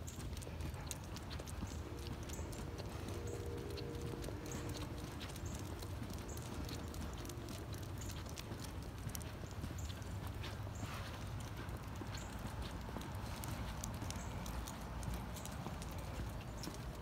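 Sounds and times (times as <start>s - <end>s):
footsteps on wet pavement: 0.0s - 17.0s
steady low rumble: 0.1s - 17.0s.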